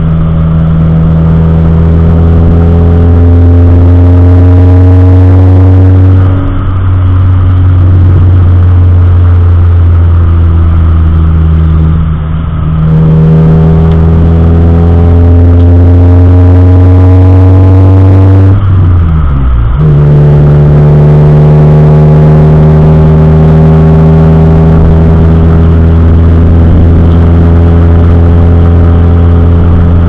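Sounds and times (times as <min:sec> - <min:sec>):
car engine and road drone: 0:00.0 - 0:30.0.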